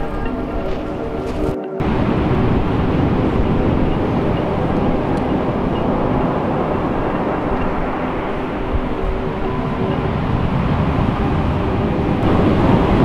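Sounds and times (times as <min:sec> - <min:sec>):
surf breaking on shore: 0:00.0 - 0:13.0
wind rumble on microphone: 0:00.0 - 0:13.0.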